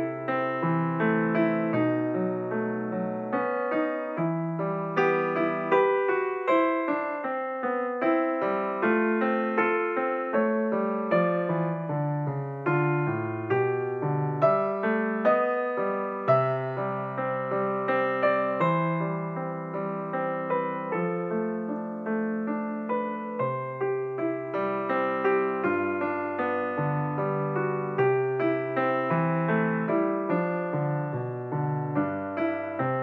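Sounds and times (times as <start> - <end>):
piano notes and chords: 0.0 - 33.0.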